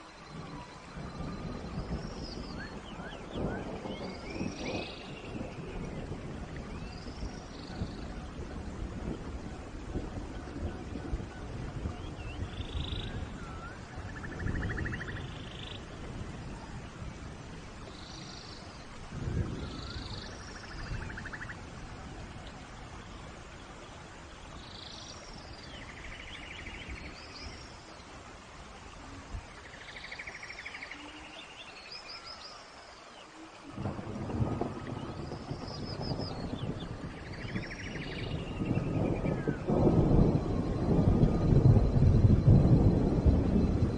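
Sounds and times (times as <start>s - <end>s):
low rumbling wind gusts: 0.0s - 43.9s
steady hiss: 0.0s - 43.9s.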